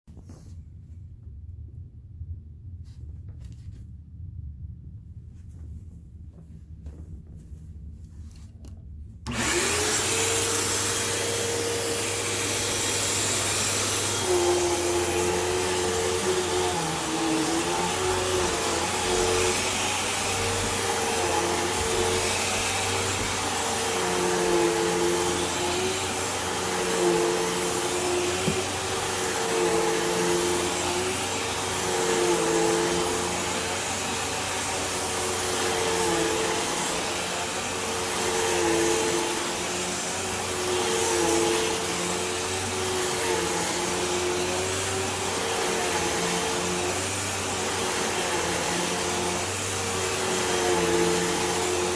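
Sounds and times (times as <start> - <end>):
vacuum cleaner running: 9.2 - 51.9.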